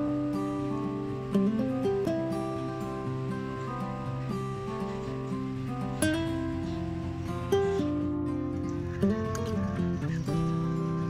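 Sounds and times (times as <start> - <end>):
plucked-string tune: 0.0 - 11.0.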